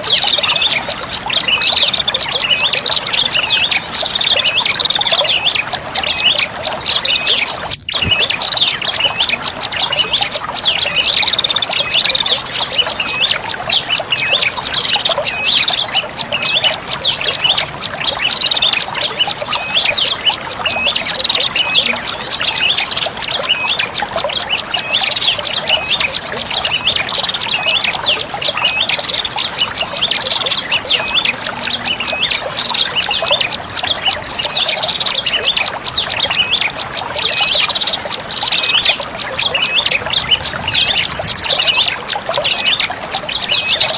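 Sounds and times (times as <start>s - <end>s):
bird chattering twitter: 0.0s - 43.9s.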